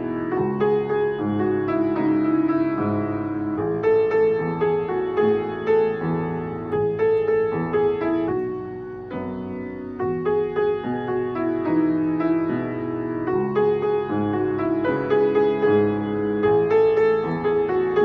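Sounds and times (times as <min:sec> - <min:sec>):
solo grand piano pop melody: 0:00.0 - 0:18.0.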